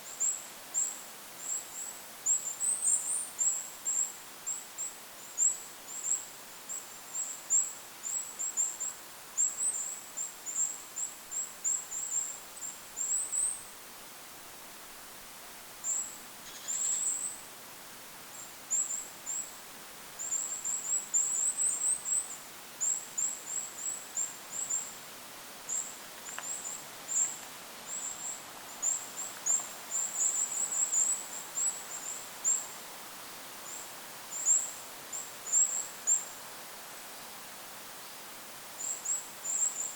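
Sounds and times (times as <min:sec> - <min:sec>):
soft wind hiss: 0:00.0 - 0:39.9.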